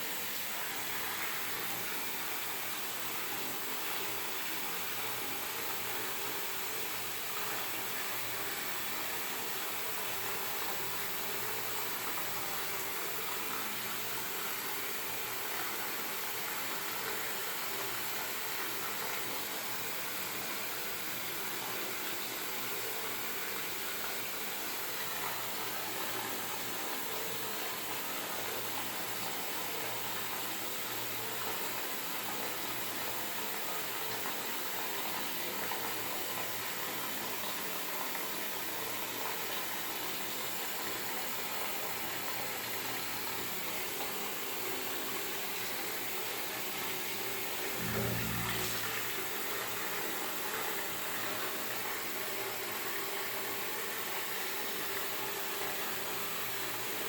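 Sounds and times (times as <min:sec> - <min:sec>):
running water from a tap: 0:00.0 - 0:57.0.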